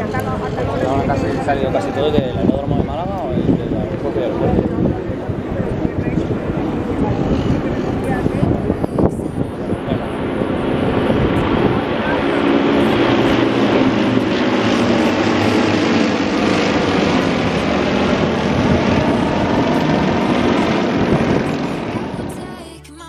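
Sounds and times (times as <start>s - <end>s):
propeller aircraft engines overhead: 0.0s - 22.8s
broad rush of noise: 0.0s - 22.9s.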